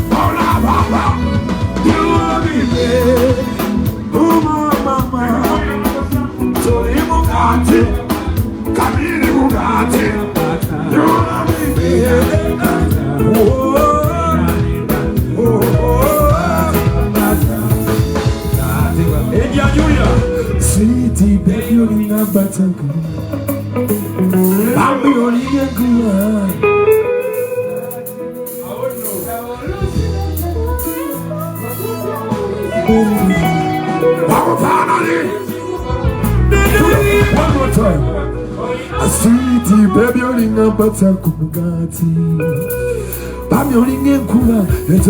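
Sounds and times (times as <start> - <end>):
bass: 0.0 - 45.0
drum kit: 0.0 - 45.0
lead guitar: 0.0 - 45.0
live band music: 0.0 - 45.0
person singing: 0.0 - 45.0.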